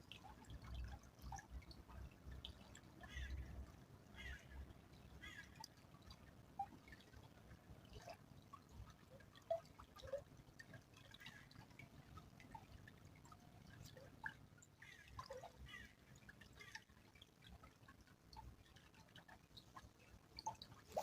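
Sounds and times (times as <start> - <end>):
small stream trickling: 0.0 - 21.0
water drips and plinks: 0.0 - 21.0.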